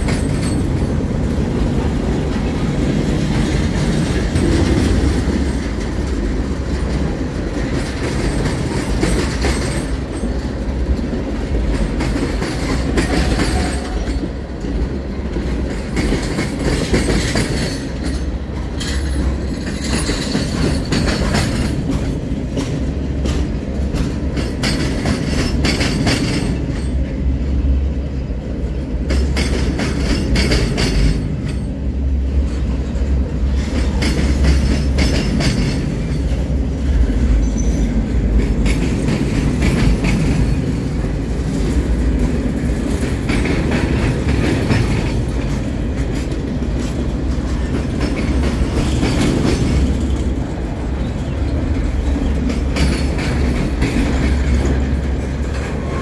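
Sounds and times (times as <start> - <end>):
wheels clacking over rail joints: 0.0 - 27.9, 28.5 - 56.0
freight train wheels rumbling: 0.0 - 56.0.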